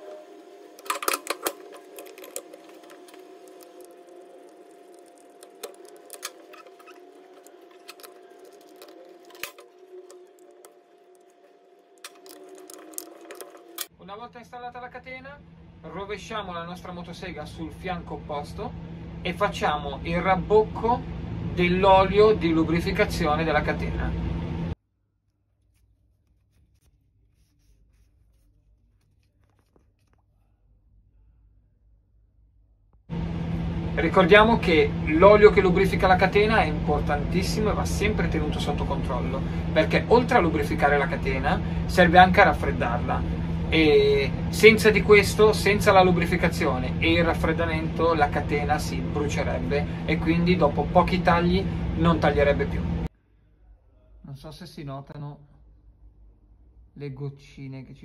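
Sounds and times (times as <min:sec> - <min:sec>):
steady background hum: 0:00.0 - 0:24.8, 0:26.3 - 0:58.0.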